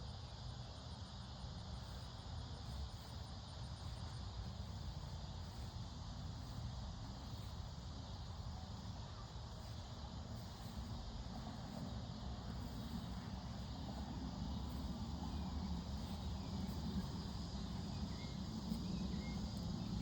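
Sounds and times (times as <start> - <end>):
high insect chirping: 0.0 - 20.0
low rumble and hiss: 0.0 - 20.0.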